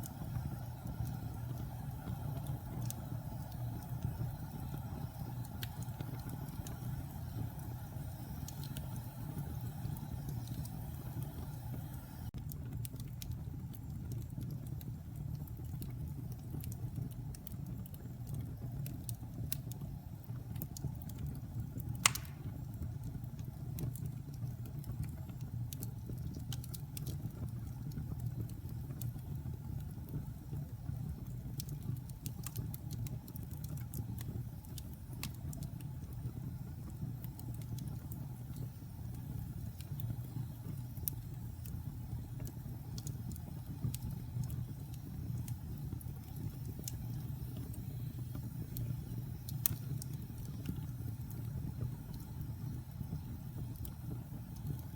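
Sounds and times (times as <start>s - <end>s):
fire crackling and popping: 0.0s - 54.9s
fire flames rumbling: 0.0s - 54.9s.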